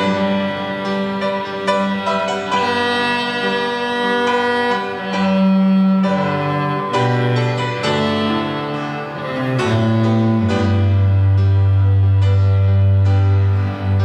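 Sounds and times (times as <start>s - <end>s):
cello playing hymn melody: 0.0s - 14.0s
piano accompaniment: 0.0s - 14.0s.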